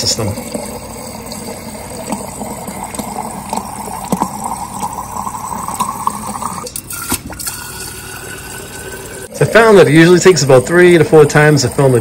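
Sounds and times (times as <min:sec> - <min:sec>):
water pouring into a glass jar: 0:00.0 - 0:12.0.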